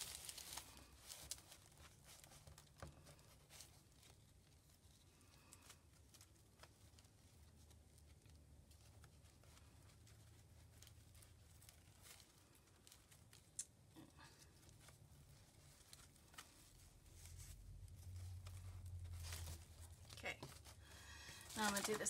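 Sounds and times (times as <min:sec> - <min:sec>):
faint room hum: 0:00.0 - 0:22.0
light clicks and rustles: 0:00.0 - 0:22.0.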